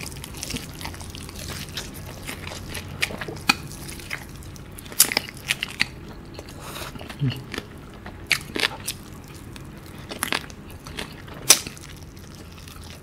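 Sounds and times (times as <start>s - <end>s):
wet chewing: 0.0s - 13.0s.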